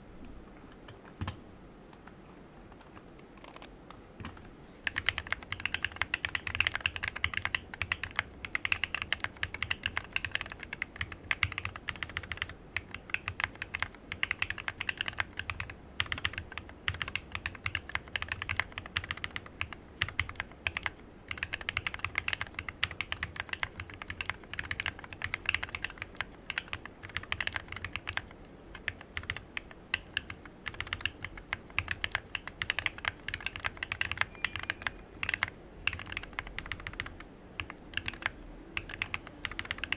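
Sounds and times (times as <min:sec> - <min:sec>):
mechanical keyboard typing: 0:02.0 - 0:39.9.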